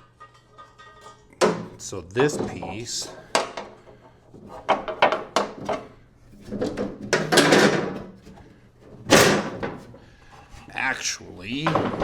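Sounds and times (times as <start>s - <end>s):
plastic parts knocking and clicking: 0.1s - 10.0s, 11.6s - 12.0s.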